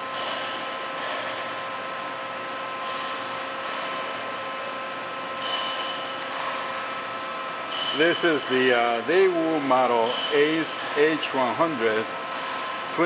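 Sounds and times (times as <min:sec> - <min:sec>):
machine whir and hum: 0:00.0 - 0:13.0.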